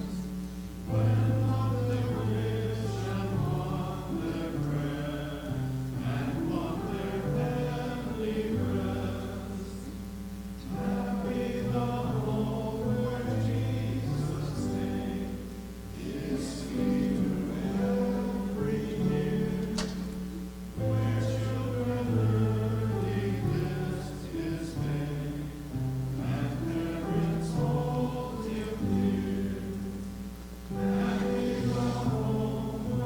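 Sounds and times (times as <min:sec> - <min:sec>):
group singing a slow hymn: 0:00.0 - 0:33.0.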